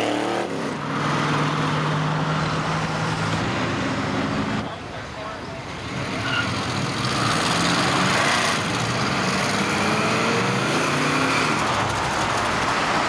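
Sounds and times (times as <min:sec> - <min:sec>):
car engines in traffic: 0:00.1 - 0:13.0.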